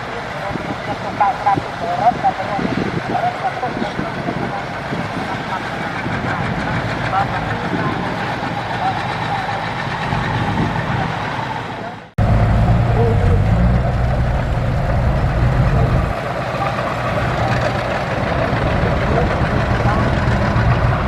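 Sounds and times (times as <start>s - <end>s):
diesel machinery engine rumble: 0.0s - 21.0s.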